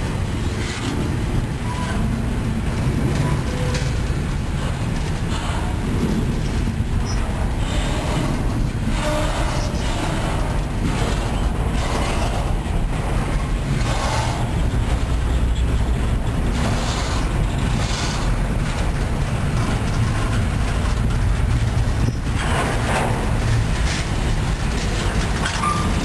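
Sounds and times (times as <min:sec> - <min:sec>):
railcar rattles: 0:00.0 - 0:26.0
train wheels rumbling on rails: 0:00.0 - 0:26.0.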